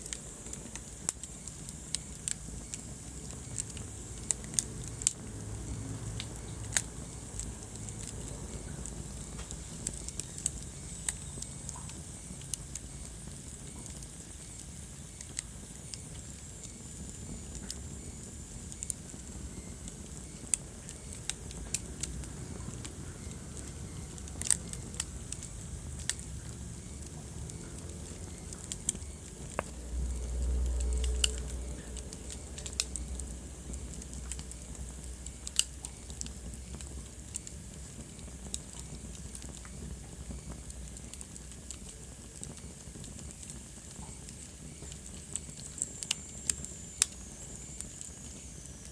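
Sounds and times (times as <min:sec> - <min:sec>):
low rumble of flames: 0:00.0 - 0:48.9
wood fire crackling: 0:00.0 - 0:48.9.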